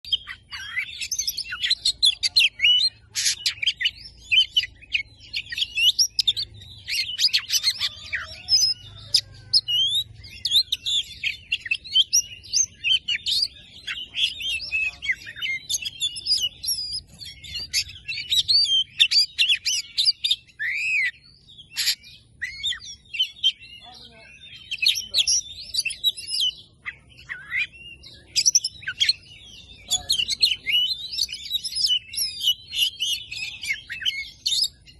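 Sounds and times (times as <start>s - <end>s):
bird singing chirps and whistles: 0.0s - 34.9s.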